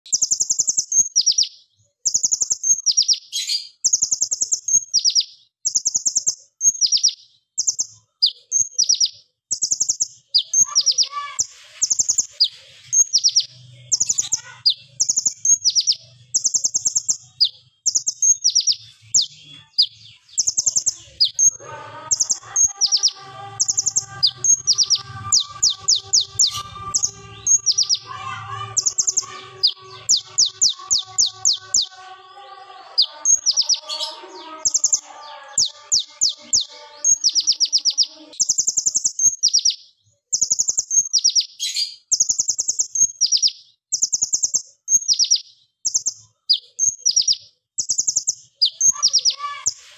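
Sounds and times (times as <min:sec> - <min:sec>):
bird singing rapid shrill trills: 0:00.0 - 0:49.9.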